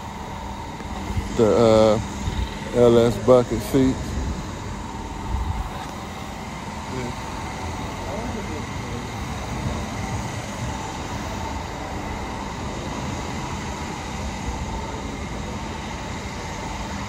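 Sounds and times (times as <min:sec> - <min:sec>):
faint high whine: 0:00.0 - 0:17.0
machinery humming: 0:00.0 - 0:17.0.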